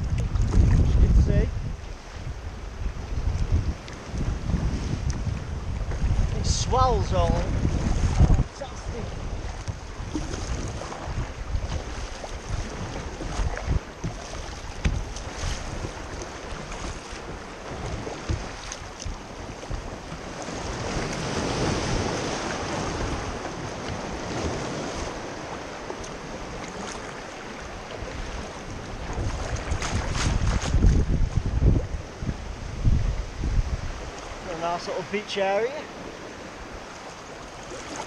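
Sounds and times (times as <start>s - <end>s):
paddle strokes splashing: 0.0s - 38.0s
rushing wash of water: 0.0s - 38.0s
water sloshing around hull: 0.0s - 38.0s
wind buffeting microphone: 0.0s - 38.0s.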